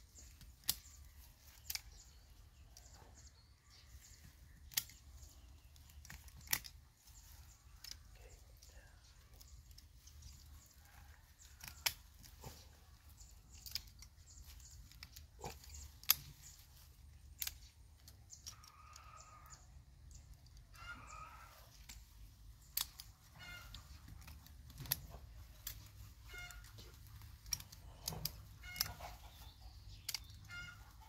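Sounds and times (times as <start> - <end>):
pruning shears snipping: 0.1 - 3.0, 3.7 - 8.7, 9.4 - 18.9, 21.6 - 31.0.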